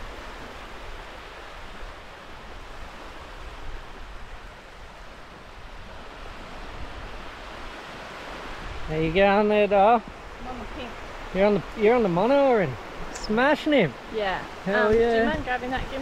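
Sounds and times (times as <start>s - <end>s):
ocean surf washing on beach: 0.0s - 16.0s.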